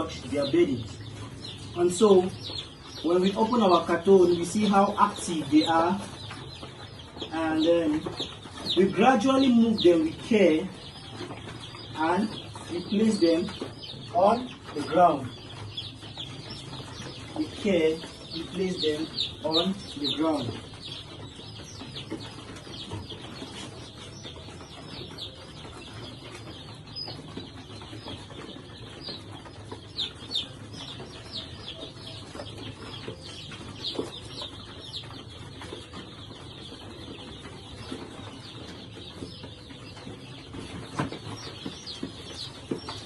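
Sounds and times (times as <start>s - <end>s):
chicks peeping: 0.0s - 43.0s.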